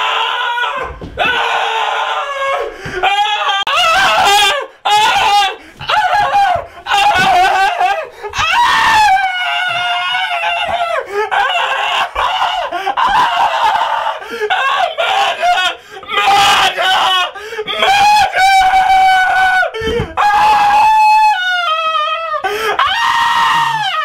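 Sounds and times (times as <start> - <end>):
man screaming shrilly: 0.0 - 24.0.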